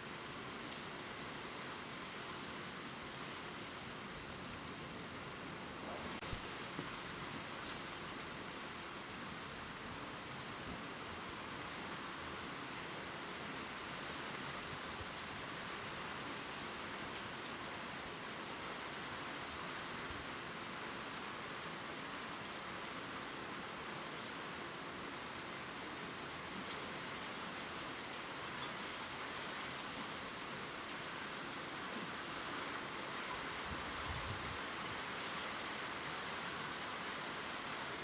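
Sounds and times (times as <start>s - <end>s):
rain falling on leaves: 0.0s - 38.0s.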